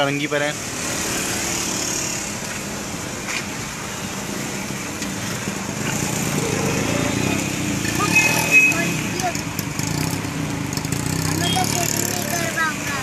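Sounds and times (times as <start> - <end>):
tyres on wet road: 0.0 - 13.0.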